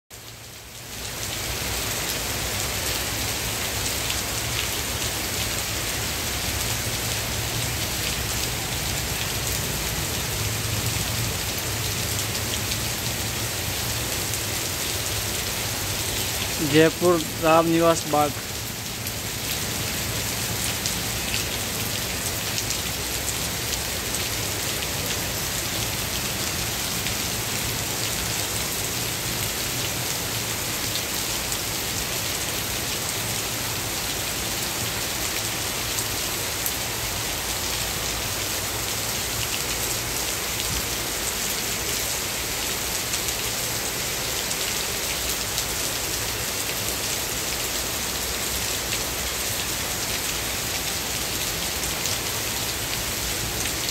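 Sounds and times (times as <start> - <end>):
heavy rain falling: 0.2 - 53.9.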